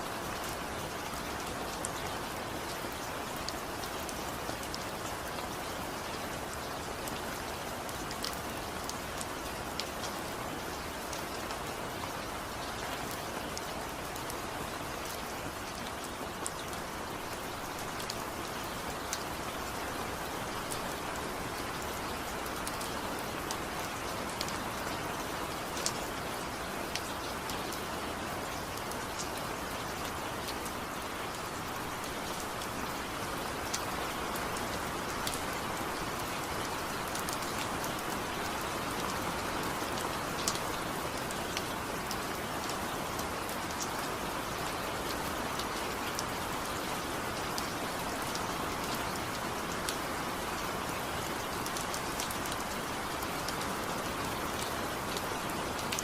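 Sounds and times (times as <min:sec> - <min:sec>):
rain drops ticking on a surface: 0:00.0 - 0:56.0
steady rainfall: 0:00.0 - 0:56.0.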